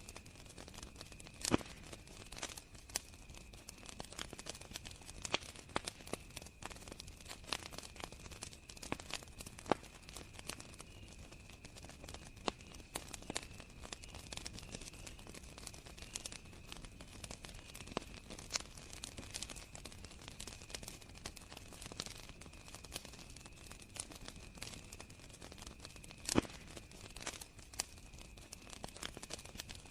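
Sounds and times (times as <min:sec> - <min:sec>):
campfire crackling and popping: 0:00.0 - 0:29.9
cricket trill: 0:00.2 - 0:29.8.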